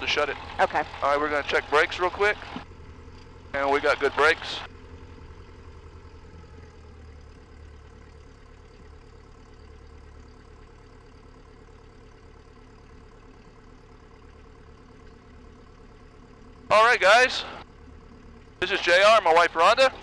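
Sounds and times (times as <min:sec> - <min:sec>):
piston engine droning: 0:00.0 - 0:20.0.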